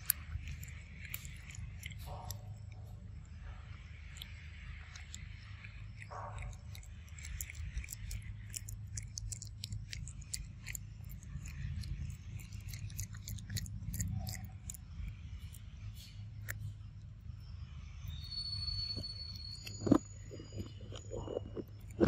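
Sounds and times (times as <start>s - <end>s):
monkey chewing peanuts: 0.0s - 3.1s, 4.0s - 16.8s, 18.0s - 22.0s
steady low rumble: 0.0s - 22.0s.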